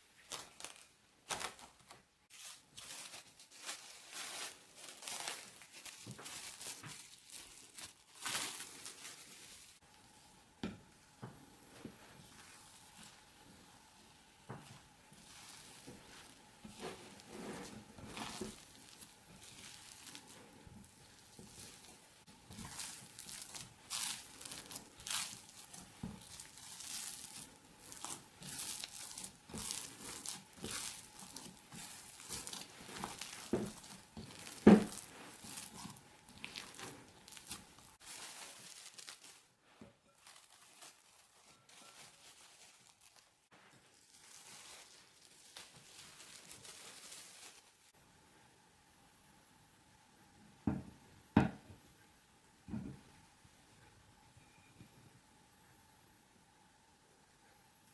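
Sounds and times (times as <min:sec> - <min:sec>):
rustling and crinkling: 0:00.0 - 0:48.0.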